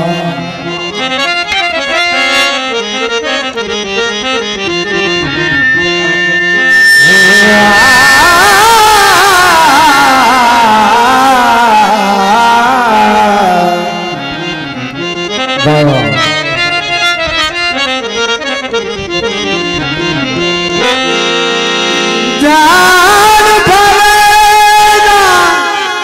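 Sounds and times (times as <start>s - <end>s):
harmonium melody: 0.0s - 26.0s.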